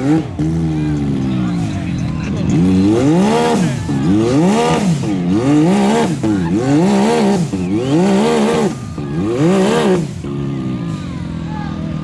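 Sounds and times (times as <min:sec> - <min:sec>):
engine revving hard: 0:00.0 - 0:11.0
tires spinning in mud: 0:00.0 - 0:12.0.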